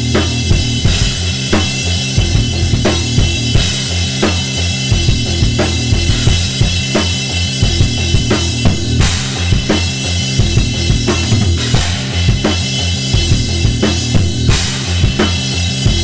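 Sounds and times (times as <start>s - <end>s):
bass line: 0.0s - 16.0s
drum kit groove: 0.0s - 16.0s.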